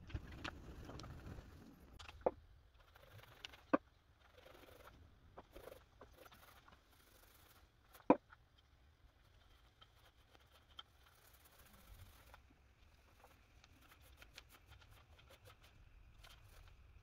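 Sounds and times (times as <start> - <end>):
paint roller sticky crackling: 2.8 - 17.0.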